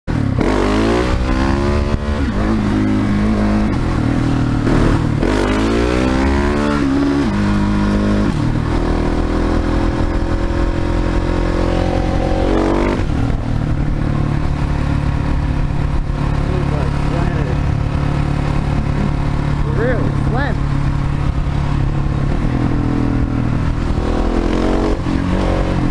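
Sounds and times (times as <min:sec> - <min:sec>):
motorcycle engine accelerating: 0:00.1 - 0:25.9.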